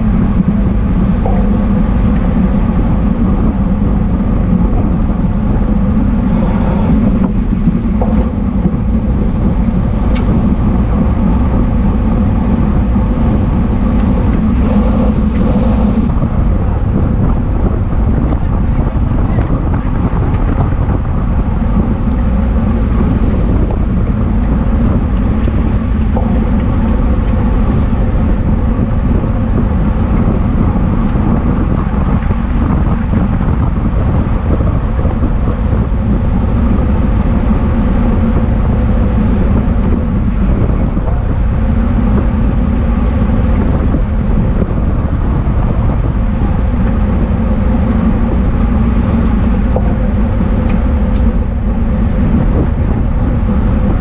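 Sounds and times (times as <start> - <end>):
low constant rumble: 0.0 - 54.0
wind buffeting microphone: 0.0 - 54.0.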